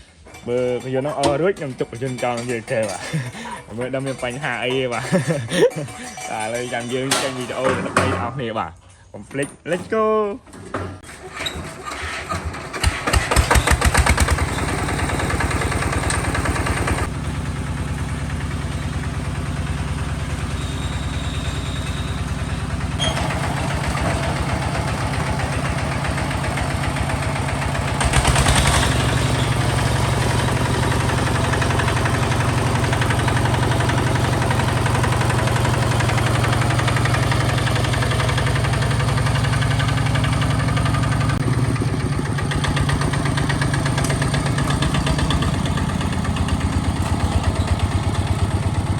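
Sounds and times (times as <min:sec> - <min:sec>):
diesel engine starting and running: 0:00.0 - 0:08.2, 0:10.4 - 0:48.9.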